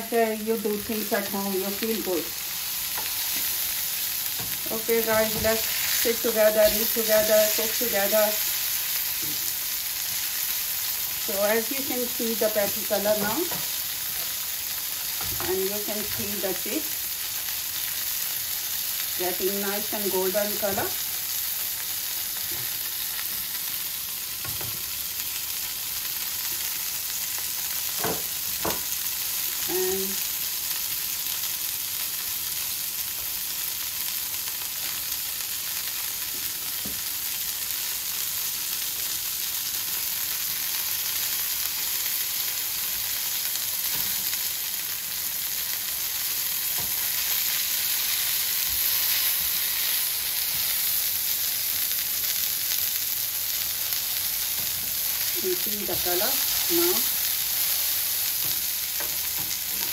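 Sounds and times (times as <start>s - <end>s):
food frying in hot oil: 0.0s - 59.9s.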